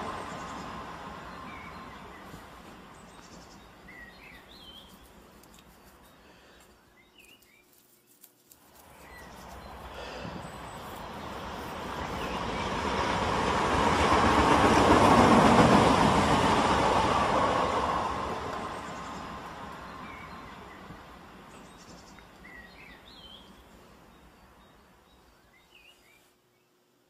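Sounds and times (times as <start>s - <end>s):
train rumbling past: 0.0s - 5.4s, 8.9s - 25.6s.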